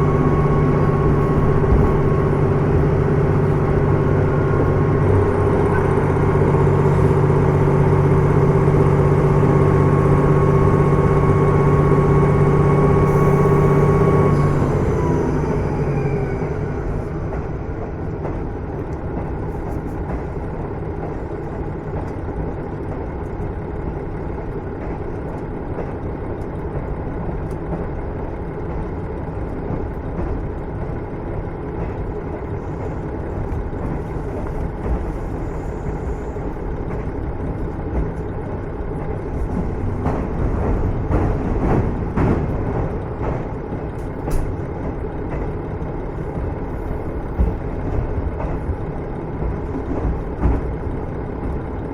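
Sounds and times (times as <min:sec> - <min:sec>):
diesel engine drone: 0:00.0 - 0:51.9
wheel-on-rail noise: 0:00.0 - 0:51.9.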